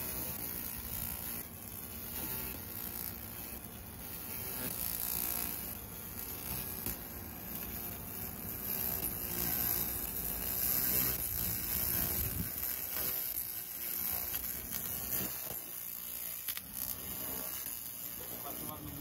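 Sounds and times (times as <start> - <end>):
laser cleaner buzzing hiss: 0.0 - 19.0.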